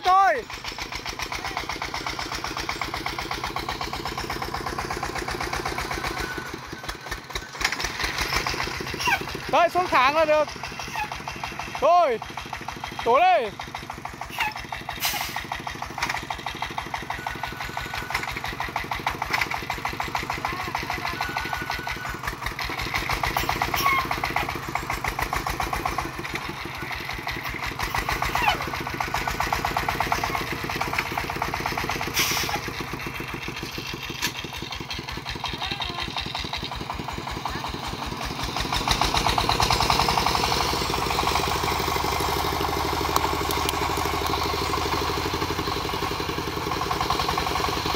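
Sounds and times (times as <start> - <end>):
diesel engine chugging: 0.0 - 47.9.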